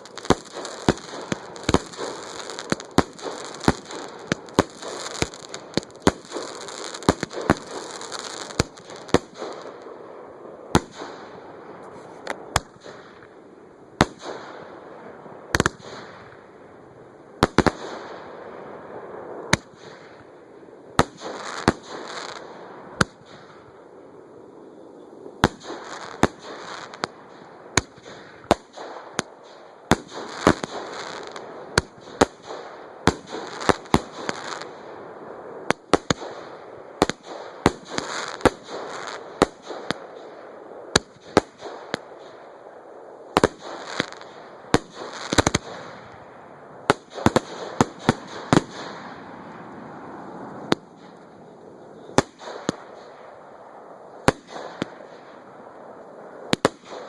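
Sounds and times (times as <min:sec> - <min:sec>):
fireworks crackling and sizzling: 0:00.0 - 0:57.0.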